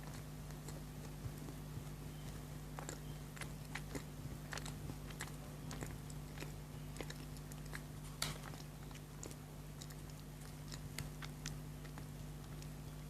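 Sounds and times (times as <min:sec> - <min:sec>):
chewing chocolate: 0:00.0 - 0:13.0.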